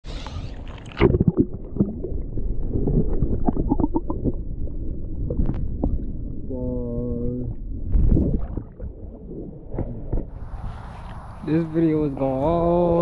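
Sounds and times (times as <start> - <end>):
underwater rumble of moving water: 0.1 - 13.0.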